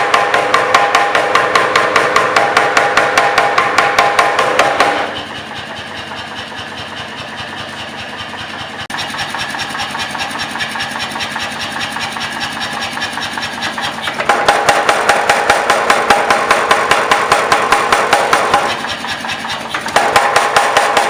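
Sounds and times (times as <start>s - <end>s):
heavy hammer blows: 0.0s - 21.0s
power hammer motor running: 0.0s - 21.0s.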